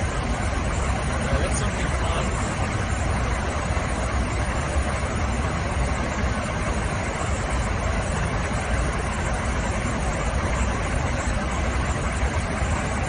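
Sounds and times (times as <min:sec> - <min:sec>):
air rushing in cockpit: 0:00.0 - 0:13.0
deep engine rumble: 0:00.0 - 0:13.0.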